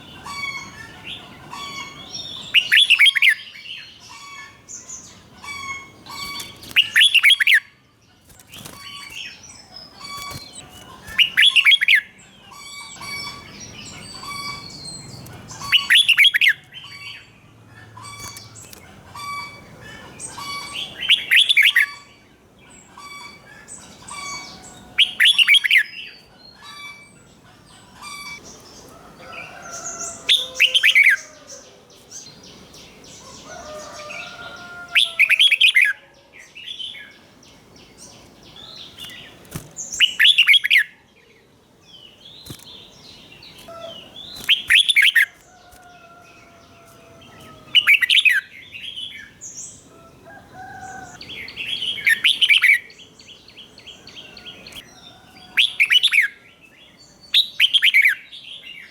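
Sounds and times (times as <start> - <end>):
soft bird chirps: 0.0 - 17.3, 18.0 - 58.9
bird singing phrases: 0.0 - 58.9.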